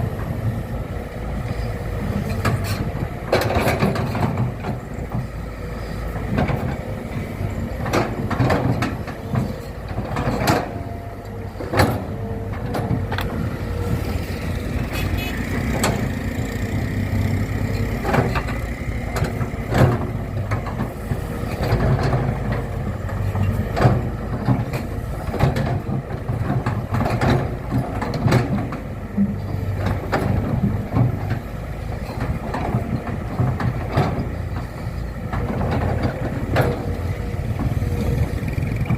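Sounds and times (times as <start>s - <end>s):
machinery engine rumbling: 0.0s - 38.9s.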